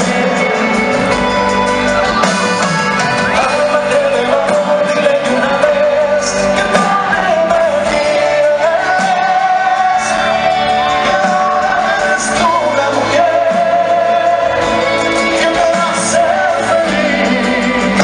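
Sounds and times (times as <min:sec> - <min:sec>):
band playing live: 0:00.0 - 0:18.0
concert crowd: 0:00.0 - 0:18.0.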